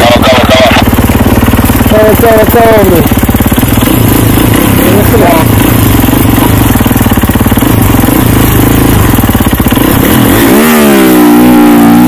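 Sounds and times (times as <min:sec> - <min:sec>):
motorbike engine revving: 0:00.0 - 0:12.0.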